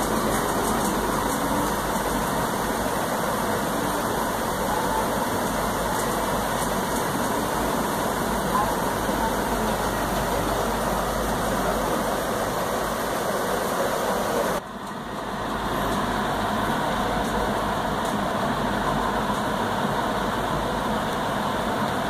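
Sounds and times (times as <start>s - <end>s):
steady broadband noise: 0.0s - 22.0s.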